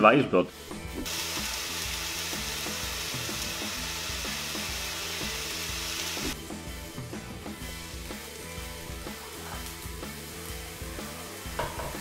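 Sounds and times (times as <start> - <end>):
background music: 0.0 - 12.0
vegetables sizzling in frying pan: 0.6 - 12.0.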